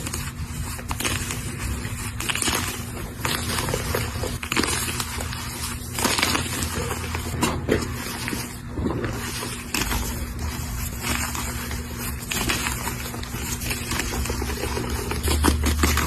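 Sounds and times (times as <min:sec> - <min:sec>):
chalk block crunching: 0:00.0 - 0:16.0.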